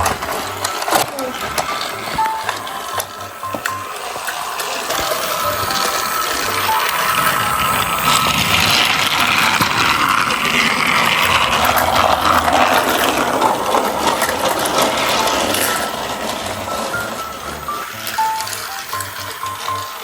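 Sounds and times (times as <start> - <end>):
toy train rattling and whirring: 0.0 - 20.0.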